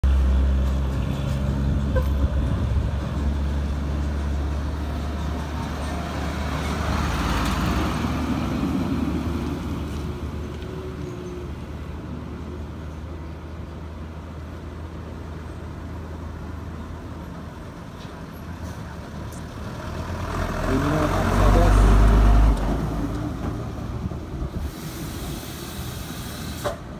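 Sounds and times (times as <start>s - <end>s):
diesel trucks passing: 0.0s - 26.9s.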